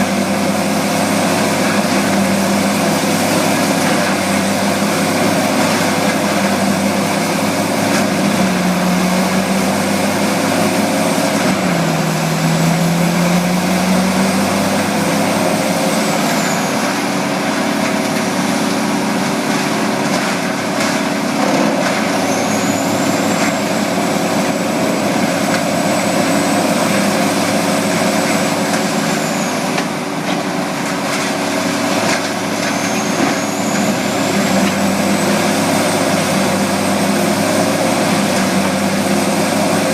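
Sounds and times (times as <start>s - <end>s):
grinder engine running: 0.0s - 39.9s.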